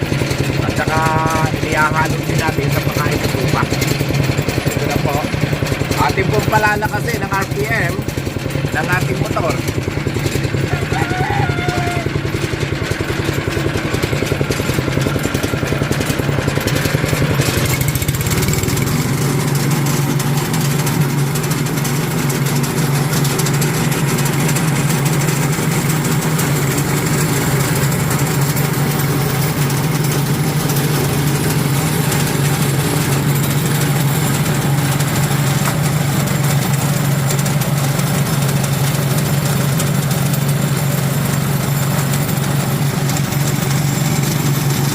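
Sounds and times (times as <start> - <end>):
feed shredder motor running: 0.0 - 44.9.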